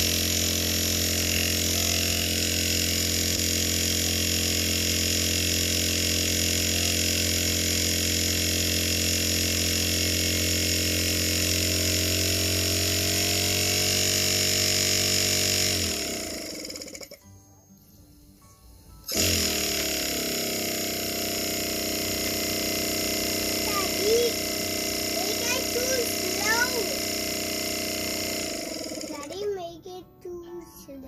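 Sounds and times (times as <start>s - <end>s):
compressor humming and whining: 0.0s - 17.3s, 19.0s - 29.6s.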